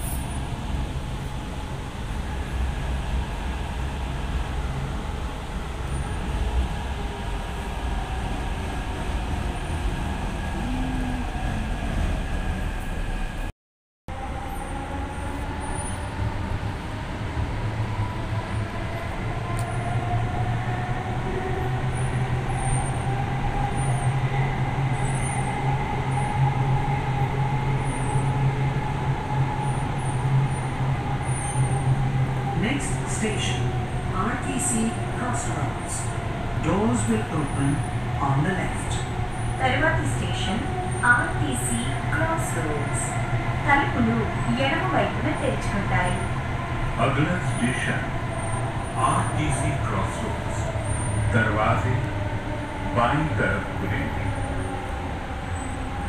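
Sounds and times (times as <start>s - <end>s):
train rumble and hum: 0.0s - 13.5s, 14.1s - 56.0s.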